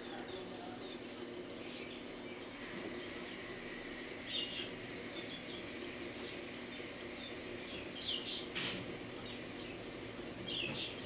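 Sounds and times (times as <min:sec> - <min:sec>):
low background hum: 0:00.0 - 0:11.0
small birds chirping: 0:00.0 - 0:11.0.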